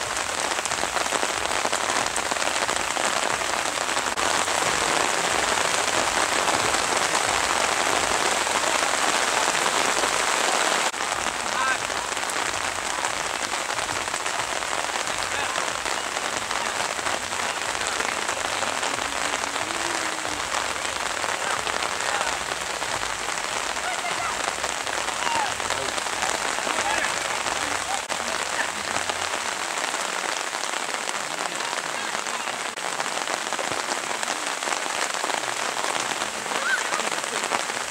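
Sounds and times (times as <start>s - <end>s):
heavy rainfall: 0.0s - 37.9s.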